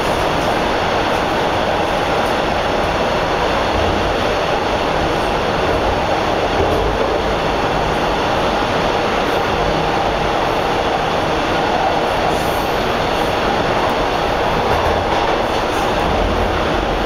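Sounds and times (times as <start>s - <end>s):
subway train running on rails: 0.0s - 17.0s.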